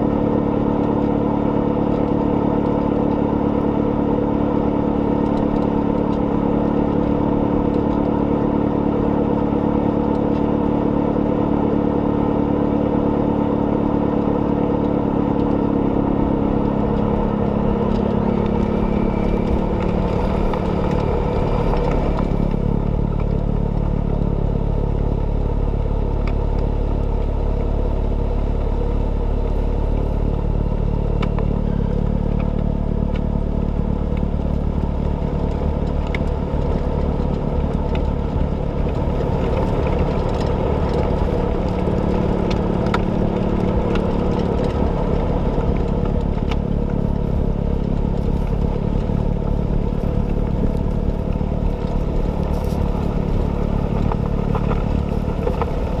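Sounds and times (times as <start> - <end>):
snowblower running: 0.0 - 56.0
tractor engine running: 0.0 - 56.0.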